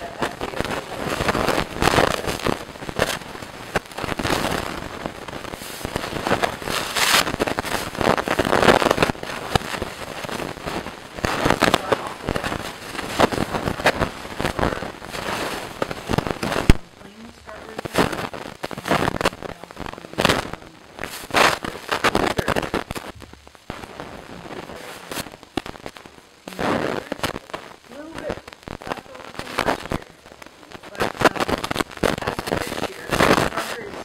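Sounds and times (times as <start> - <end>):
jam boiling and popping: 0.0 - 34.0.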